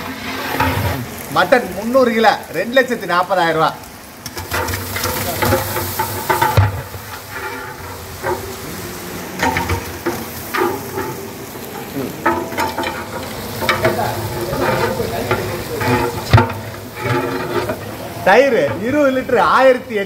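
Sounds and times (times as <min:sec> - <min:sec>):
metal paddle scraping pot: 0:00.0 - 0:01.3, 0:04.2 - 0:19.2
hot oil sizzling: 0:00.0 - 0:20.0.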